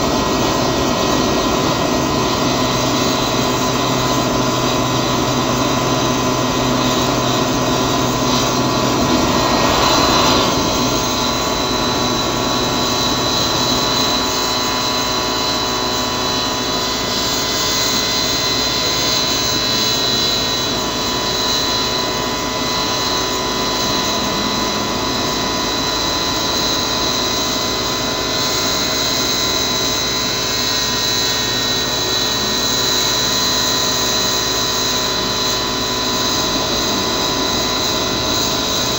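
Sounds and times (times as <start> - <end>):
jet engine roaring with high whine: 0.0 - 38.9.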